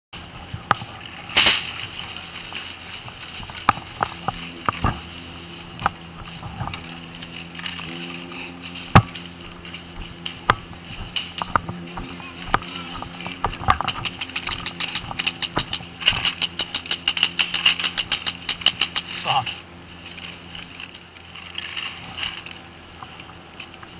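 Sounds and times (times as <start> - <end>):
low engine hum: 0.2 - 23.9.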